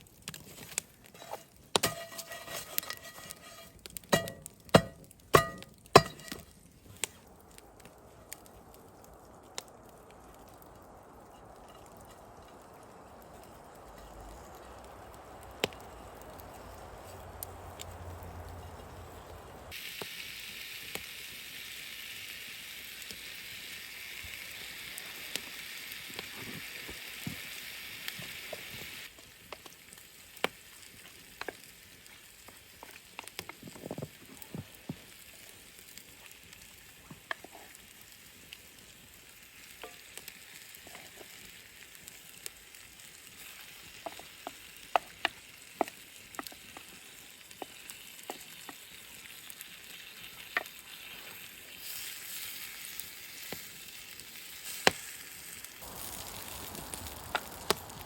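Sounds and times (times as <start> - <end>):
food sizzling in a skillet: 0.0 - 7.2, 11.1 - 58.0.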